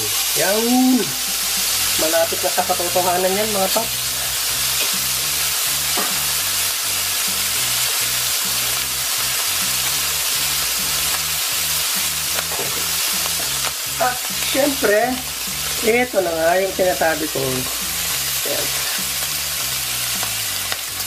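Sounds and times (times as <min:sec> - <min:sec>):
steak sizzling in a frying pan: 0:00.0 - 0:21.0.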